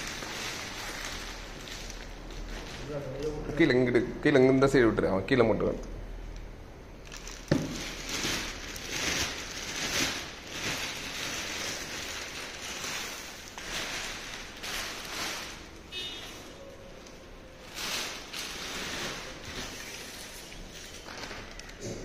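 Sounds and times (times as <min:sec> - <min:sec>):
plastic wrap rustling and crinkling: 0:00.0 - 0:04.0, 0:07.0 - 0:22.0.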